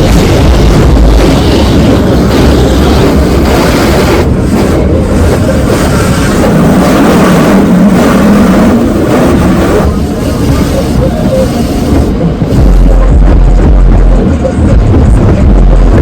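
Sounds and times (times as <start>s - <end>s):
car wash spray and machinery: 0.0s - 16.0s.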